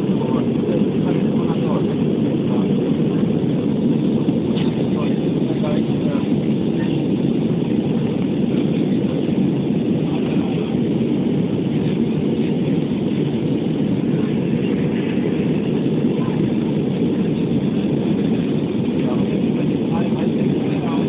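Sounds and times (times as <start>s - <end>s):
airplane cabin engine rush: 0.0s - 21.0s.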